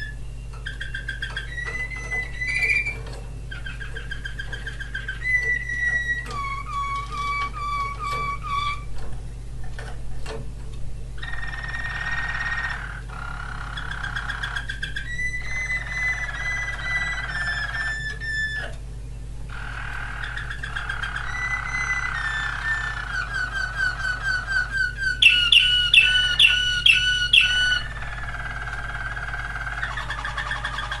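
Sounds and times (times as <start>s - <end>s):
canary singing trills: 0.0s - 9.0s, 11.2s - 31.0s.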